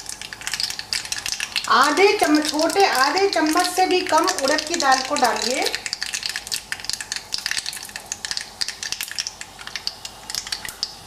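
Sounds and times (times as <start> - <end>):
seeds sizzling and popping in oil: 0.0 - 11.0.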